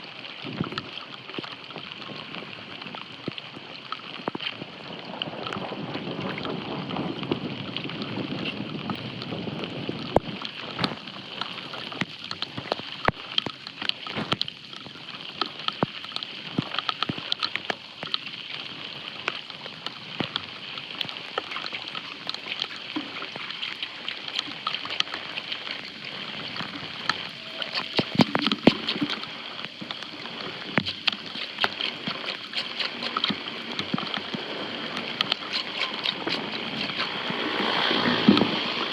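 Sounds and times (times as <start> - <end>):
water gurgling and sloshing: 0.0 - 38.9.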